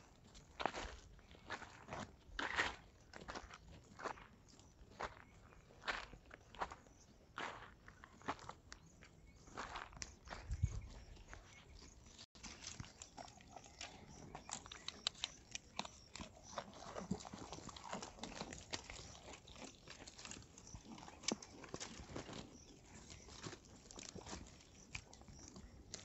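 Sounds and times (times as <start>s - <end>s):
goats chewing: 0.0s - 26.0s.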